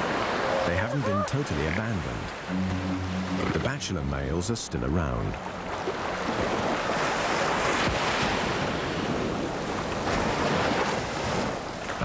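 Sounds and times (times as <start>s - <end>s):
waves breaking on beach: 0.0s - 4.5s, 5.3s - 12.0s
wind: 0.0s - 12.0s.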